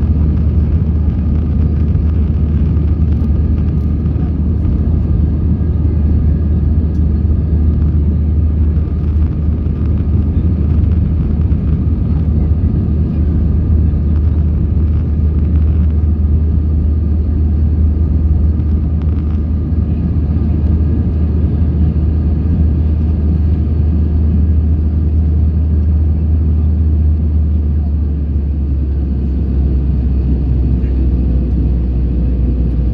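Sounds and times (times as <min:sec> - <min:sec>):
deep drone of jet engines: 0:00.0 - 0:32.9.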